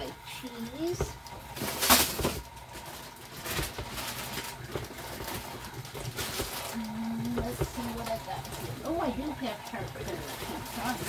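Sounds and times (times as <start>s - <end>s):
stand mixer churning dough: 0.0s - 11.0s.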